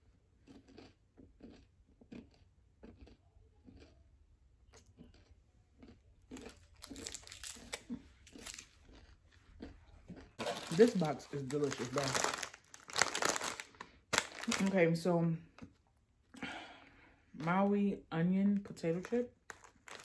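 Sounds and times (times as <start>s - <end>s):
faint crunching of candy chewed: 0.0s - 17.6s, 18.6s - 20.0s.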